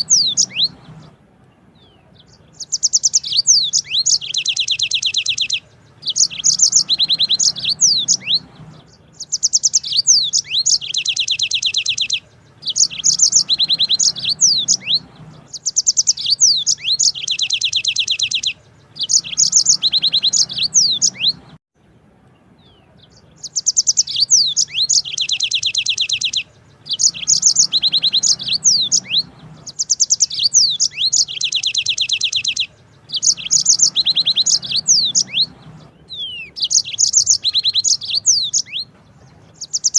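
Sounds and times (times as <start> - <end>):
canary singing rolling trills: 0.0 - 39.9.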